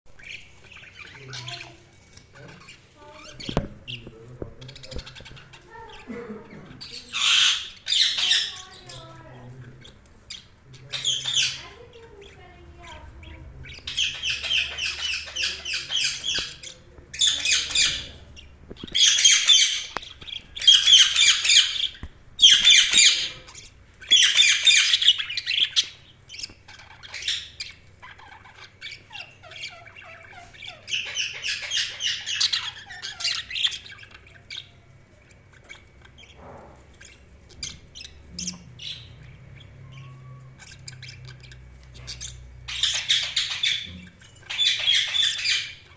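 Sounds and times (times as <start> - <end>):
budgerigars chirping: 0.1 - 45.9.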